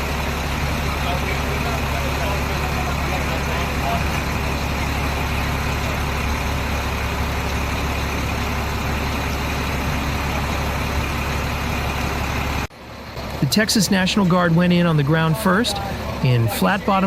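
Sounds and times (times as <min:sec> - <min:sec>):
loud engine drone: 0:00.0 - 0:17.0.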